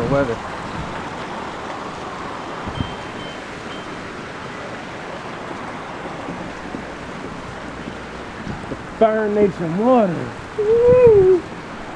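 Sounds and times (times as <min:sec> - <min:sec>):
steady rain falling: 0:00.0 - 0:11.9.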